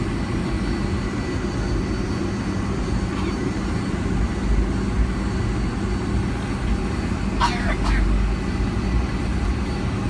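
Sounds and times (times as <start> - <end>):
airplane cabin engine hum: 0.0 - 10.0.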